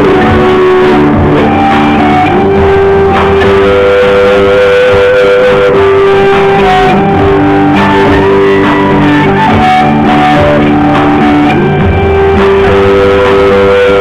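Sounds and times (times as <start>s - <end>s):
electric guitar: 0.0s - 14.0s
live band playing instrumental: 0.0s - 14.0s.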